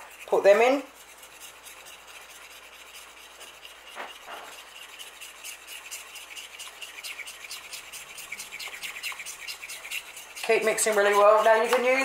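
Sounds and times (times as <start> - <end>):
fork scraping metal saucepan: 0.0 - 12.0.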